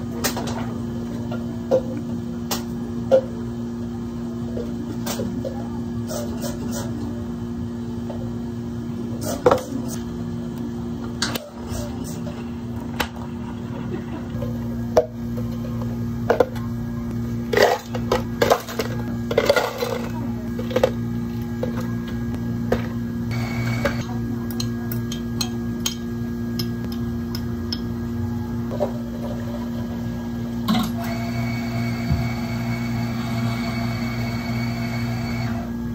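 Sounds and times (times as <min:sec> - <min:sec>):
cafe equipment hum: 0:00.0 - 0:35.9.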